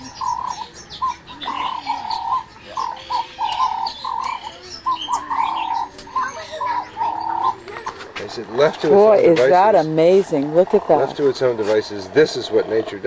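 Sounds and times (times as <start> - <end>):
birds calling: 0.0 - 13.0
high bird chirps: 0.0 - 13.0.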